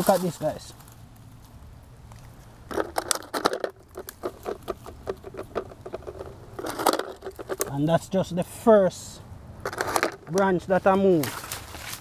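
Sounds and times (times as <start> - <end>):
pattering and clicking in dry leaves: 0.0 - 8.4, 9.6 - 12.0.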